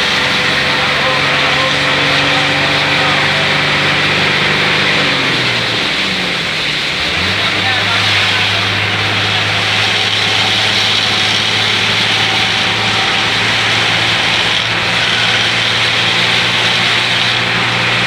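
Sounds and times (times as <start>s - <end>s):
bus engine droning: 0.0s - 18.0s
heavy rain hiss: 0.0s - 18.0s
tyres on wet road: 0.0s - 18.0s.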